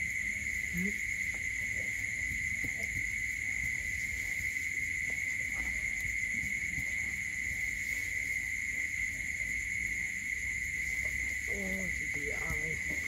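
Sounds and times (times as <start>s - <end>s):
crickets droning: 0.0s - 13.0s.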